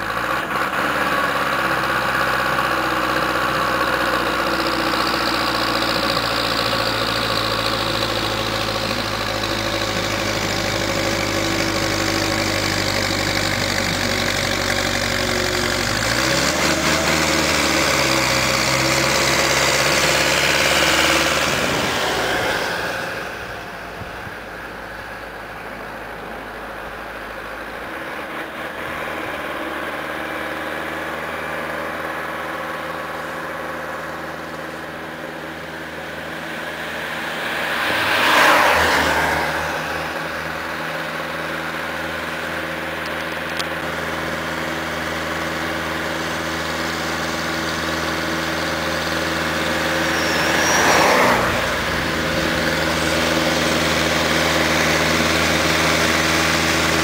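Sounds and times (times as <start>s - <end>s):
tractor diesel engine under load: 0.0s - 57.0s
vehicles passing by: 0.0s - 57.0s.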